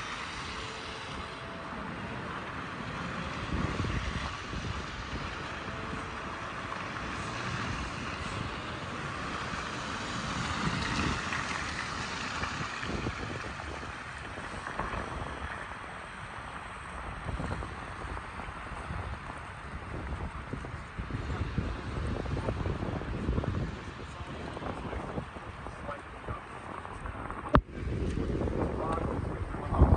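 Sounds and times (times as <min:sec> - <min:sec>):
traffic on slushy roads: 0:00.0 - 0:29.9
wind rumbling on microphone: 0:00.0 - 0:29.9.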